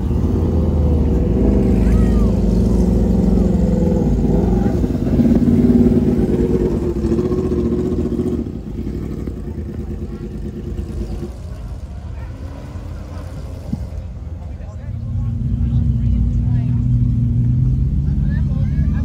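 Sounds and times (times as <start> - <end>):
race car engine: 0.0 - 19.0
sports car engine driving past: 0.0 - 19.0.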